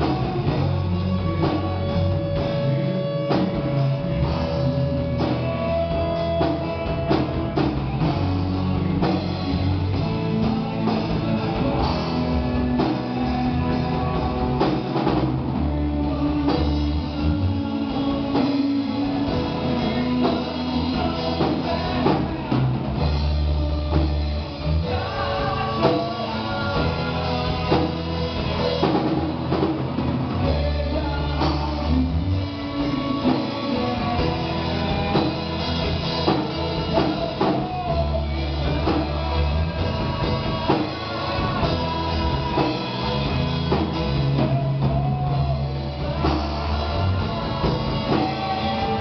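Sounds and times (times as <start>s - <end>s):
drum kit: 0.0s - 49.0s
guitar: 0.0s - 49.0s.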